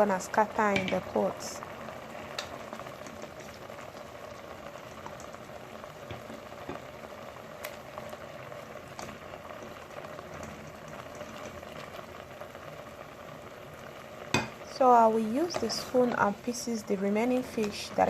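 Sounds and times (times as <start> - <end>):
pot bubbling: 0.0 - 18.0.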